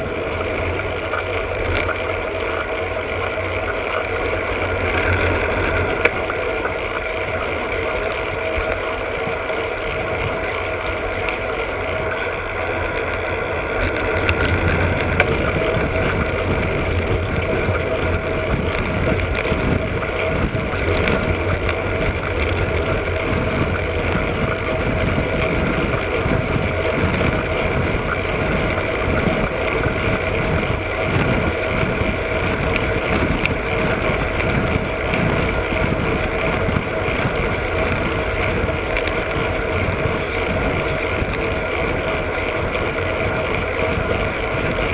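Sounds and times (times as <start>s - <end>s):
bicycle tyre and drivetrain hum: 0.0s - 44.9s
wind rumble on microphone: 0.0s - 44.9s.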